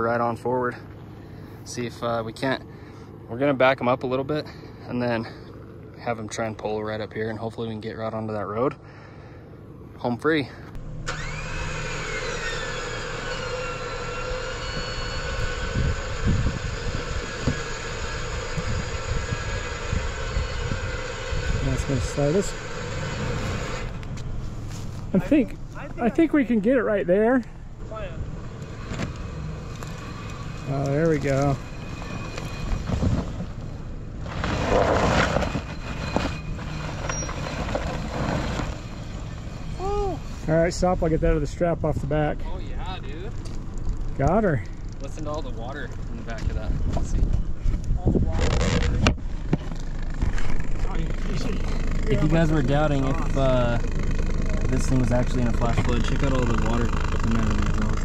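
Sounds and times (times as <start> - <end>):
vehicle engine running under load: 0.0 - 58.0
rough scraping over ground: 10.4 - 45.2, 45.8 - 58.0
falling whine: 10.8 - 58.0.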